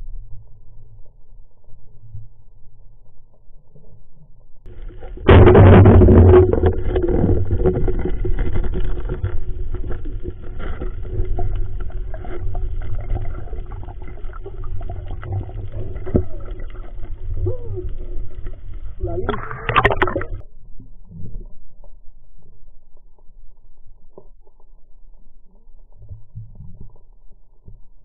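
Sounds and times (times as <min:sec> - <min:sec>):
muffled underwater rumble: 0:00.0 - 0:28.0.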